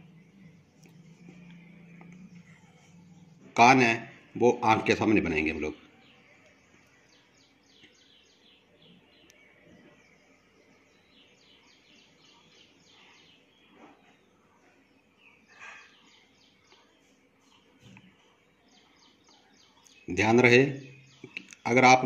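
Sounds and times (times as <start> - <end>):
faint bird chirping: 0.0 - 22.0.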